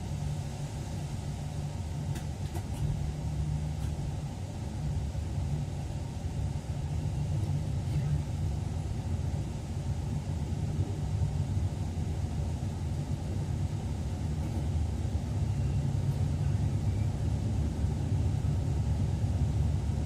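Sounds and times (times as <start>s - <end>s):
electric train rumbling on track: 0.0s - 20.0s.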